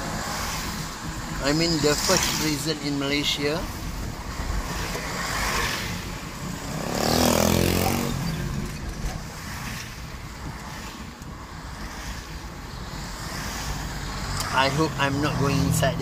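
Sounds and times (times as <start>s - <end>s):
tyres on wet road: 0.0s - 16.0s.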